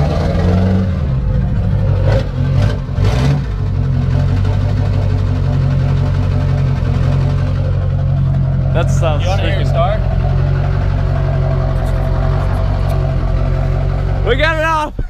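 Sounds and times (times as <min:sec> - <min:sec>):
diesel engine idling: 0:00.0 - 0:15.0
engine throttle blips: 0:00.0 - 0:15.0.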